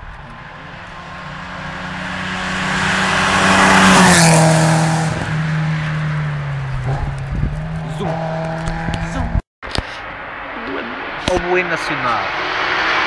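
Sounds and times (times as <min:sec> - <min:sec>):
rally car passing at speed: 0:00.3 - 0:09.4, 0:10.1 - 0:13.0.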